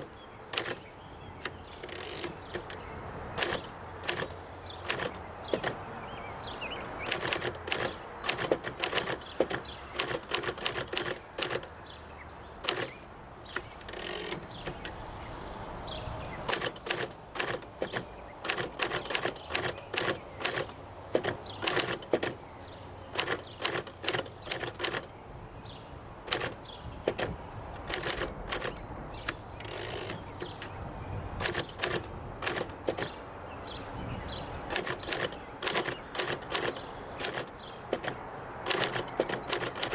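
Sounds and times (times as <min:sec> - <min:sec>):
manual typewriter typing: 0:00.0 - 0:06.0, 0:07.0 - 0:12.0, 0:12.6 - 0:15.0, 0:16.4 - 0:25.2, 0:26.1 - 0:30.8, 0:31.4 - 0:33.3, 0:34.5 - 0:39.9.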